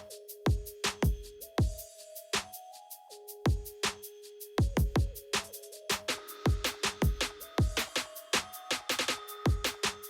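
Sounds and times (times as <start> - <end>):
drum-machine beat: 0.0 - 10.0.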